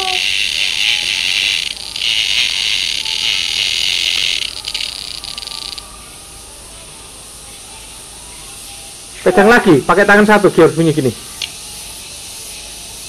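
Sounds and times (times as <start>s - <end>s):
cicada buzzing: 0.0s - 6.5s, 7.5s - 13.0s.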